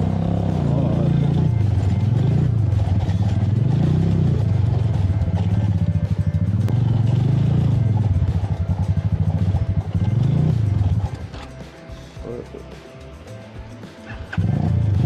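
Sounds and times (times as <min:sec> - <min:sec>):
background music: 0:00.0 - 0:15.0
motorcycle engine revving: 0:00.0 - 0:15.0.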